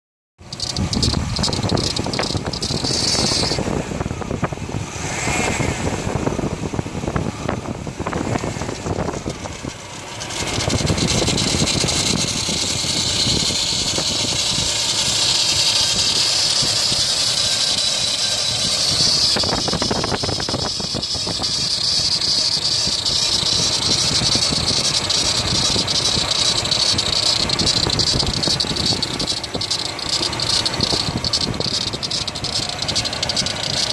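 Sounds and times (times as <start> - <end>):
high-pitched rattling: 0.4 - 4.4, 8.0 - 33.9
car engine running: 0.4 - 33.9.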